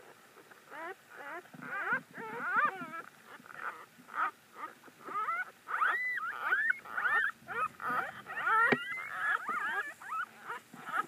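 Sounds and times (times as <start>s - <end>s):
puppy squealing and crying: 0.7s - 11.0s.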